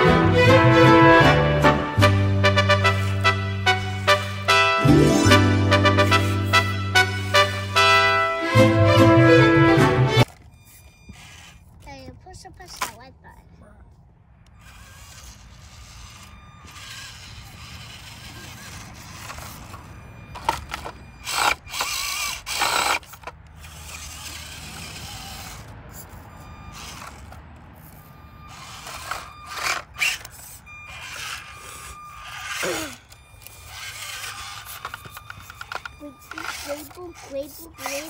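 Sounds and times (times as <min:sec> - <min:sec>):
small electric motor whining: 0:00.0 - 0:12.9, 0:14.4 - 0:38.0.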